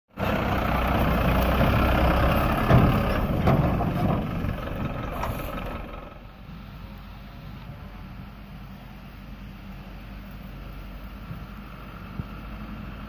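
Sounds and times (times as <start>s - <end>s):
diesel truck engine running: 0.1s - 13.0s.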